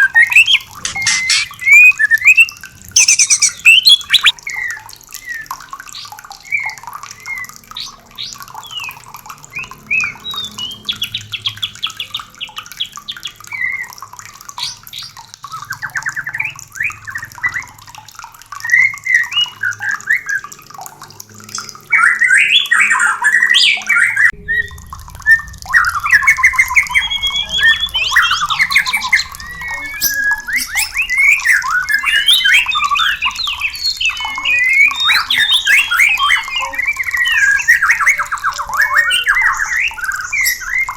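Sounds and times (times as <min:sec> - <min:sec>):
bird song whistles and trills: 0:00.0 - 0:17.8, 0:18.6 - 0:20.5, 0:21.5 - 0:40.9.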